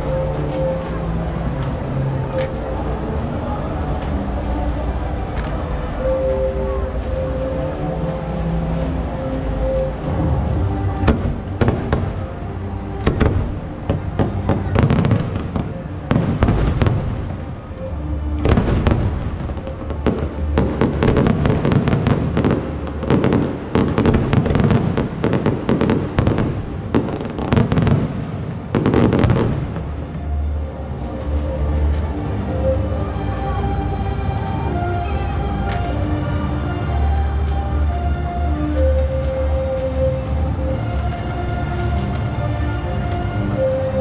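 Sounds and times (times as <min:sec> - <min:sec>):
music: 0:00.0 - 0:44.0.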